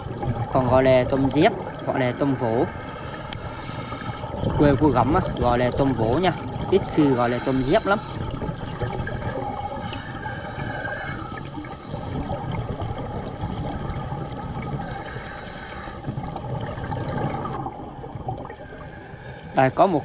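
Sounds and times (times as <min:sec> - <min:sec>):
underwater air bubbling: 0:00.0 - 0:20.0.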